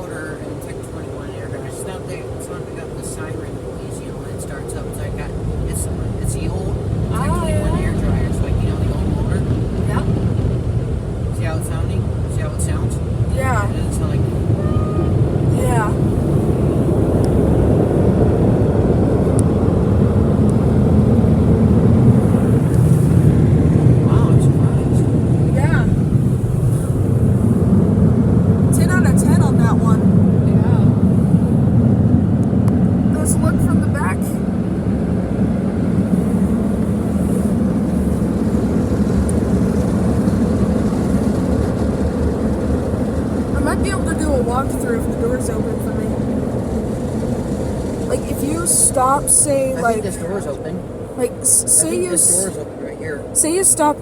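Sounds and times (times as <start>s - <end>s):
air dryers blowing: 0.0s - 29.8s, 35.0s - 54.0s.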